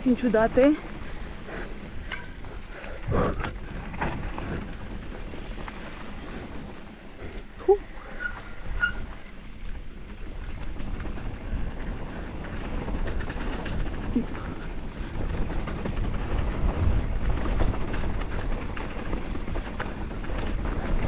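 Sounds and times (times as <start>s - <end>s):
bike rattling: 0.0s - 21.0s
wind rushing over microphone: 0.0s - 21.0s.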